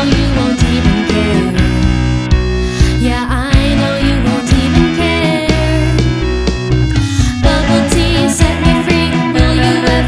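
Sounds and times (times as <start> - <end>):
pop-rock song with guitar: 0.0 - 10.0.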